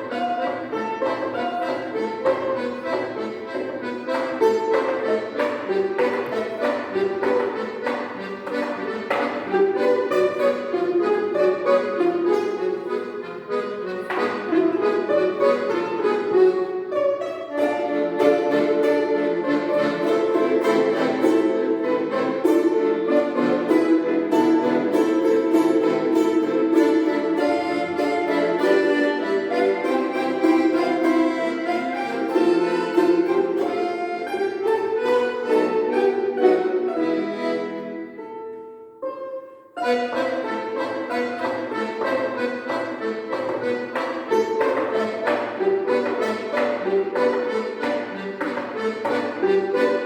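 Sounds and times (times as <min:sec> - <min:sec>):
instrumental trio melody: 0:00.0 - 0:50.0.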